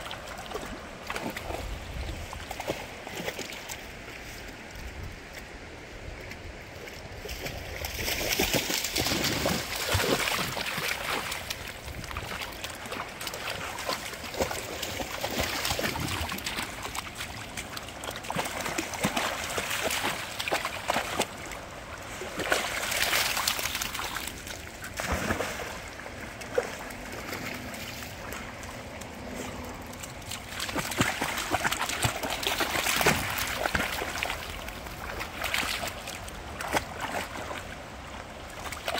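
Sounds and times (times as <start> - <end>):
dogs splashing in water: 0.0 - 4.1, 7.2 - 38.9
creek water rushing: 0.0 - 38.9.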